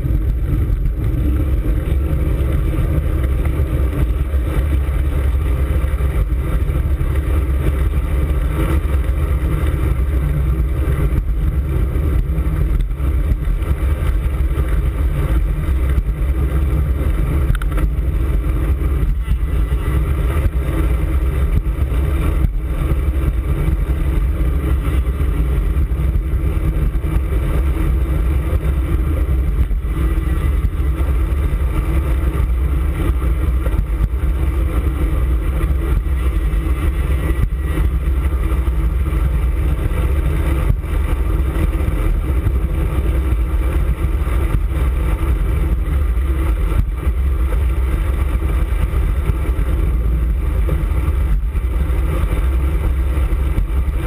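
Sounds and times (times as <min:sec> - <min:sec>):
tyre and road noise: 0:00.0 - 0:54.0
wind rushing over microphone: 0:00.0 - 0:54.0.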